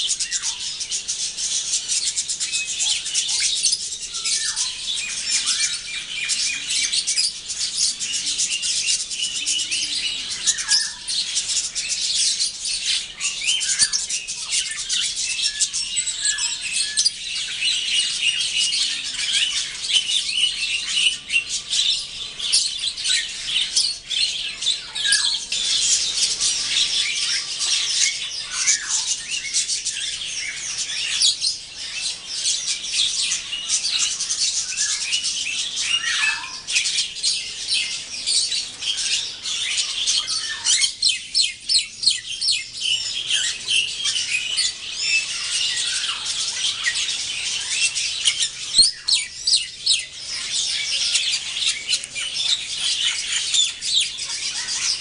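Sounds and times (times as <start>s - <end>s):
flock of birds chattering: 0.0s - 55.0s.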